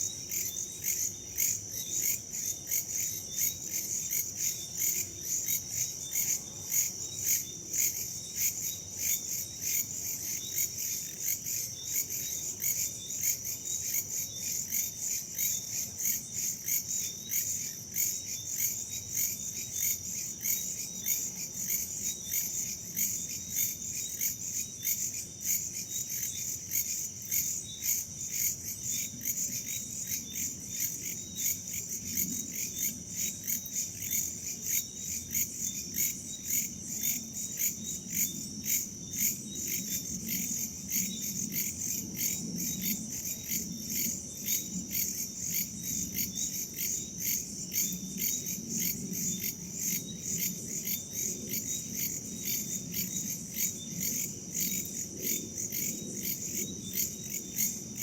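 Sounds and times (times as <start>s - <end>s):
crickets and insects chirping: 0.0s - 58.0s.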